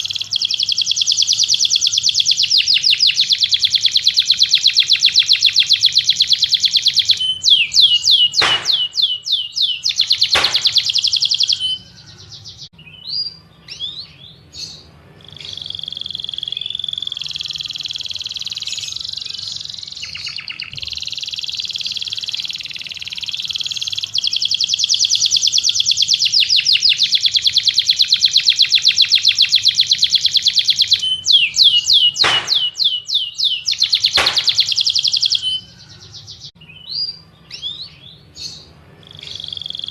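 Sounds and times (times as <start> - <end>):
songbird trilling and chattering: 0.0 - 39.9.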